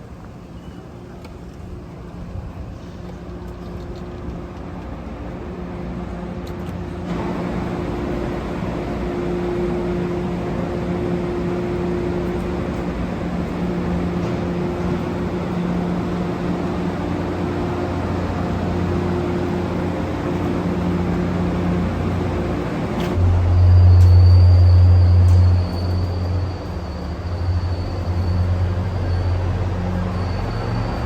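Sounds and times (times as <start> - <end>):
train rumble and hum: 0.0 - 31.0.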